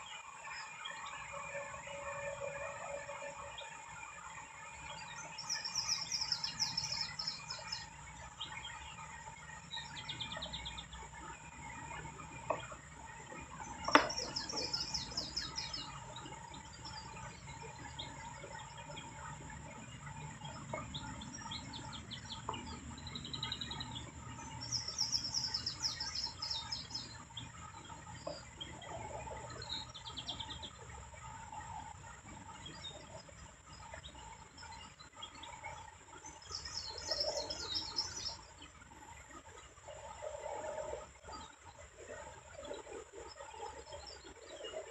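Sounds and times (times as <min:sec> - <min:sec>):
songbirds chirping and trilling: 0:00.0 - 0:44.9.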